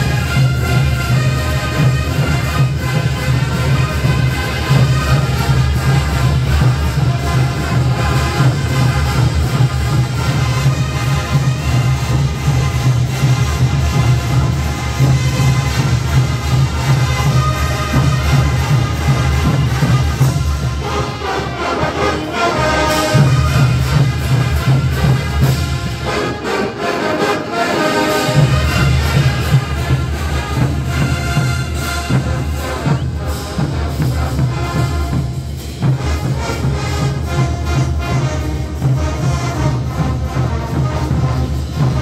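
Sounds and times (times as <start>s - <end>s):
brass bands playing: 0.0s - 42.0s.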